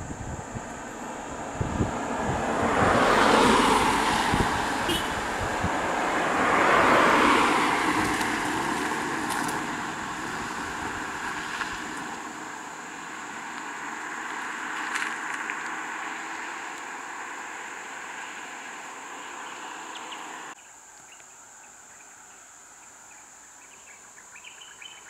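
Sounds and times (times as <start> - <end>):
cars passing on paved road: 0.0 - 20.6.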